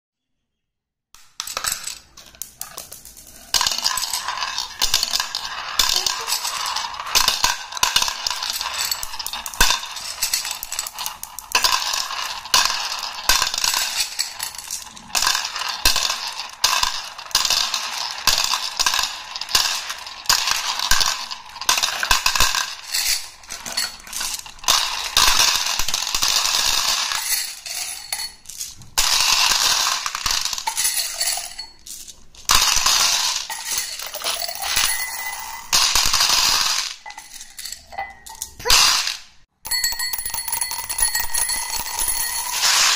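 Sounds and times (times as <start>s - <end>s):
glass marbles clattering in a bowl: 1.2s - 42.9s.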